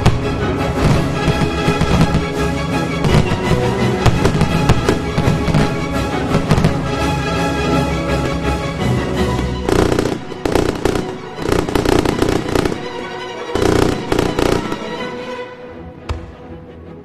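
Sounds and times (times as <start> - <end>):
fireworks bangs and crackles: 0.0 - 15.2
background music: 0.0 - 17.0.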